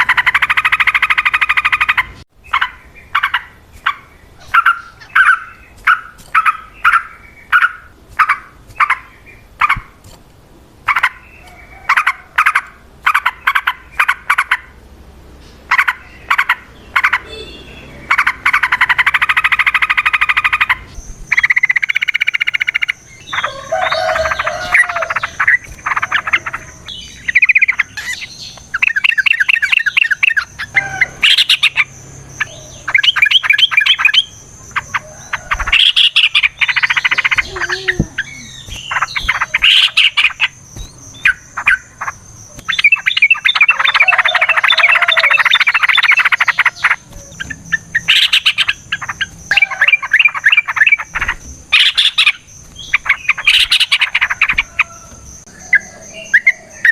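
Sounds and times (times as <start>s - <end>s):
bulbul calling: 0.0s - 10.0s, 10.8s - 14.9s, 15.5s - 56.9s.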